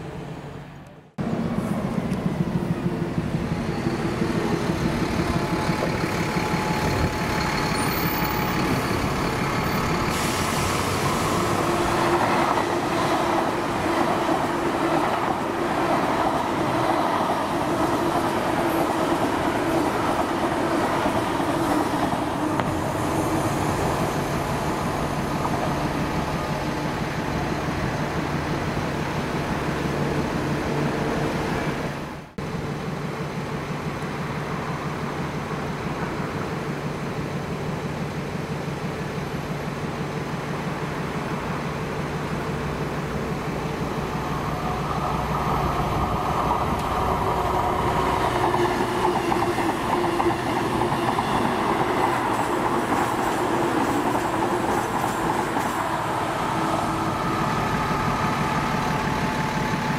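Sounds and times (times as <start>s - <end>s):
diesel train engine drone: 0.0s - 59.9s
wheel and rail noise: 0.0s - 59.9s.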